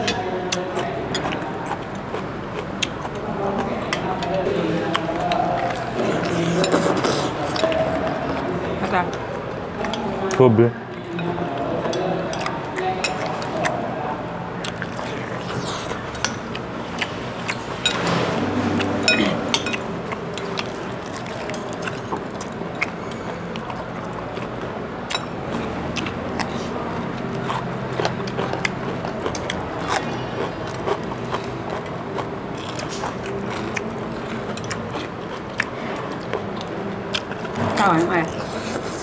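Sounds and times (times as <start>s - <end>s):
people chewing: 0.0s - 39.0s
steady background hum: 0.0s - 39.0s.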